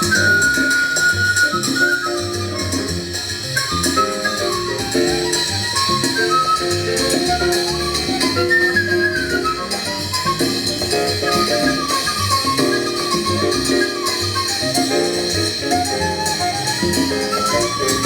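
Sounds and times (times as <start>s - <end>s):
latin jazz ensemble playing: 0.0s - 18.0s.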